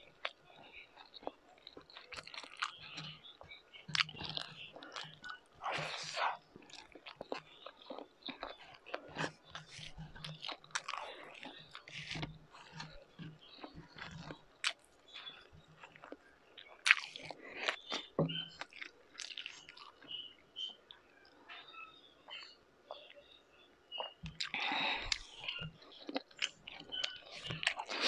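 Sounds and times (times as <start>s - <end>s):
person chewing and smacking: 0.0s - 28.0s.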